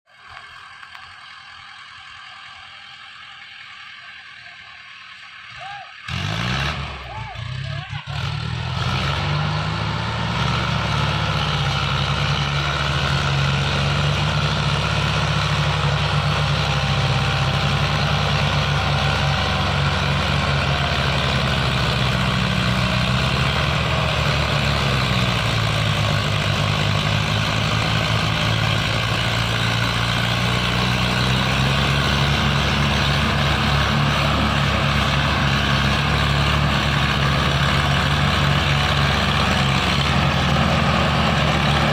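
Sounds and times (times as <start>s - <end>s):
tractor engine running: 0.1s - 41.9s.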